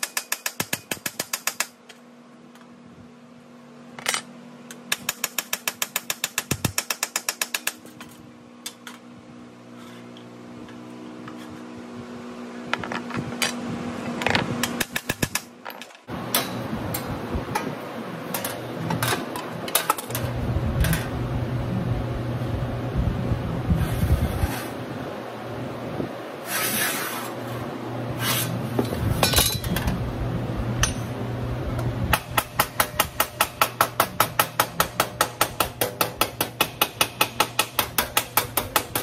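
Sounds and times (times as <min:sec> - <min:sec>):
steady low hum: 0:00.1 - 0:39.0.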